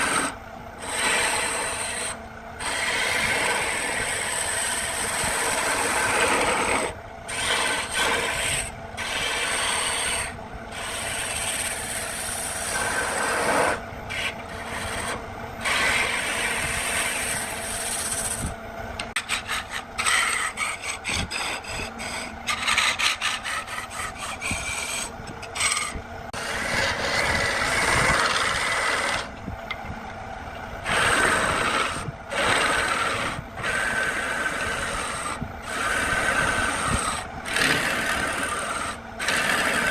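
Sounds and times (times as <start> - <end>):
lathe tool cutting wood: 0.0 - 29.3, 30.8 - 39.9.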